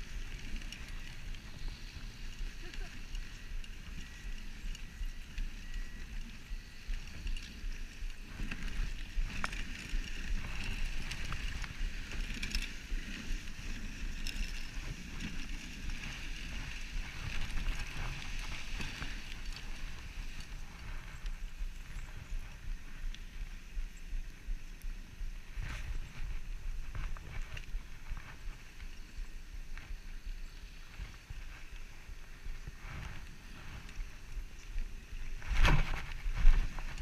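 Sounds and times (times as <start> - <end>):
sled runners scraping on snow: 0.0 - 37.0.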